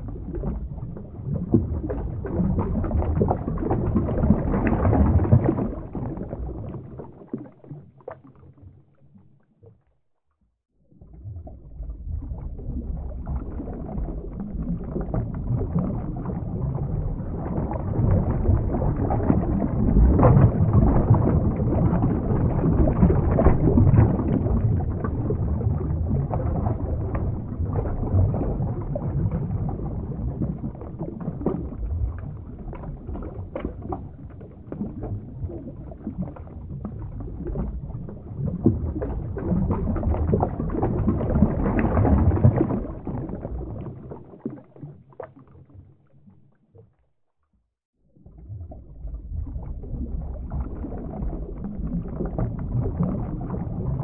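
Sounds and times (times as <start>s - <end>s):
muffled underwater churning: 0.0s - 54.0s.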